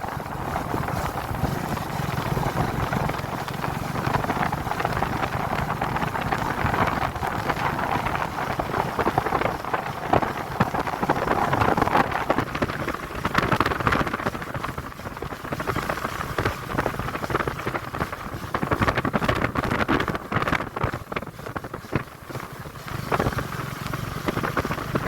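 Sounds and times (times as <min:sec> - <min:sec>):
rain and wind striking microphone: 0:00.0 - 0:25.0.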